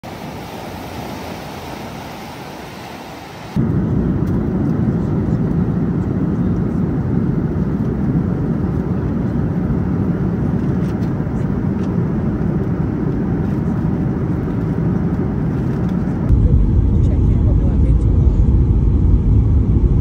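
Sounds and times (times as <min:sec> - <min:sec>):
vehicle rumbling: 0:03.6 - 0:20.0.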